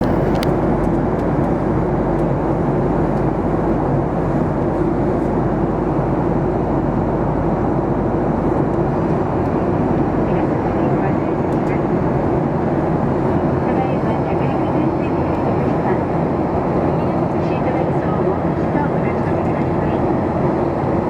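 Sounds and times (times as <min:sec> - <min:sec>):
airliner cabin engine rumble: 0:00.0 - 0:21.0
steady low hum: 0:00.0 - 0:21.0.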